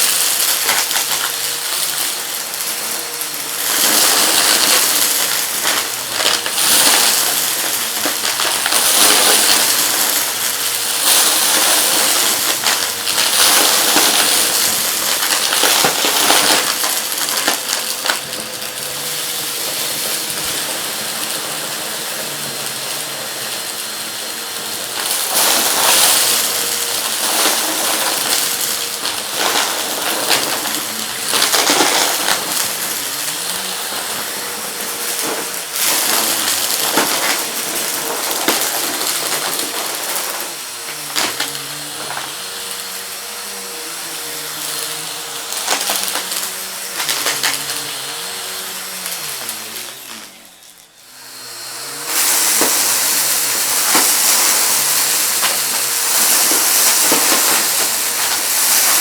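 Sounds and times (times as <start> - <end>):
debris rattling through vacuum: 0.0 - 59.0
vacuum cleaner running: 0.0 - 59.0.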